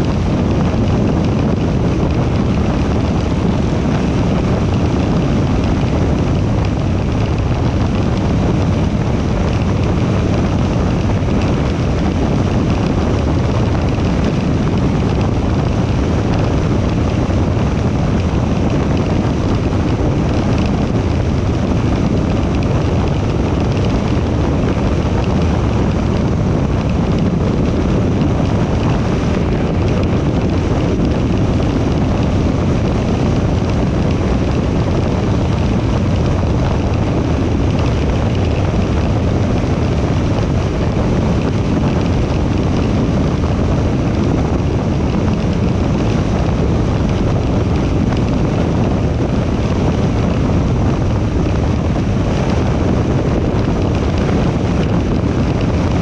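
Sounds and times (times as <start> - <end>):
car road noise at highway speed: 0.0 - 56.0
wind on microphone: 0.0 - 56.0.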